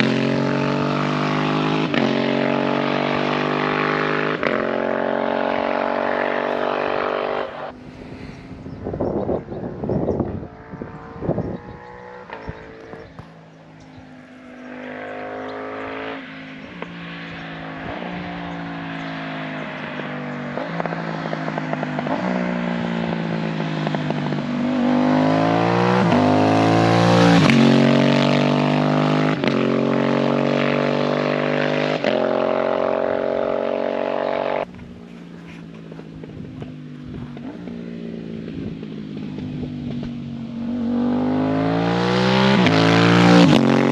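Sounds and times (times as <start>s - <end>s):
motorcycle accelerating through gears: 0.0s - 43.9s.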